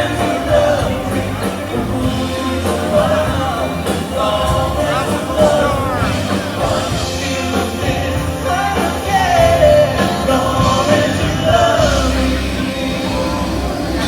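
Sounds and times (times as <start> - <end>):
loud rock music with singer: 0.0 - 14.0.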